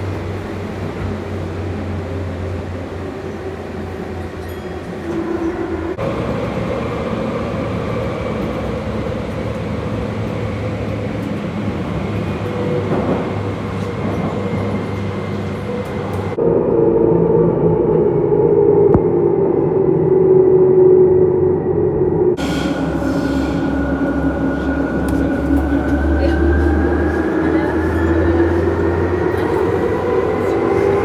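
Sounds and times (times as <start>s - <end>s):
subway train motors and wheels: 0.0s - 31.0s.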